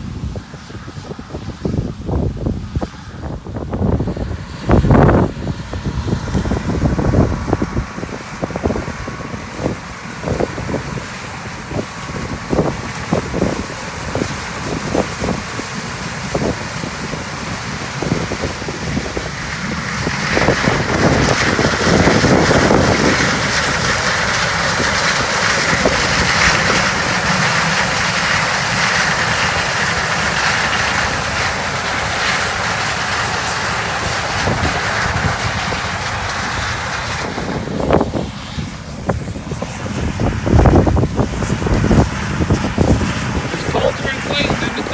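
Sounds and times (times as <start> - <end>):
wind buffeting microphone: 0.0 - 44.9
harvest machinery running: 3.7 - 44.9.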